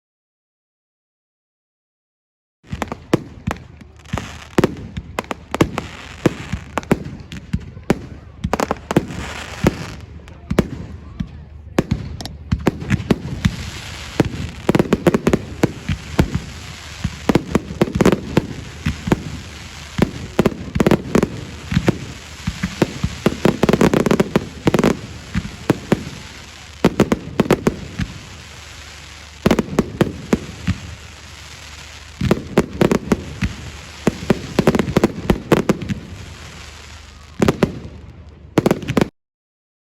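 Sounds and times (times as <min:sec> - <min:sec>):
fireworks crackling bangs and booms: 0:02.6 - 0:39.1.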